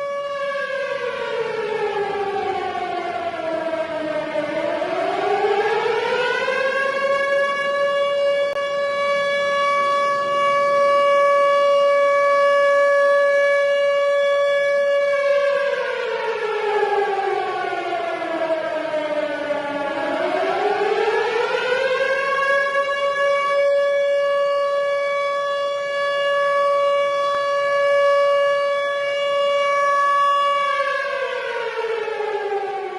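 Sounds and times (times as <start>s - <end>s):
warning siren wailing: 0.0s - 32.9s.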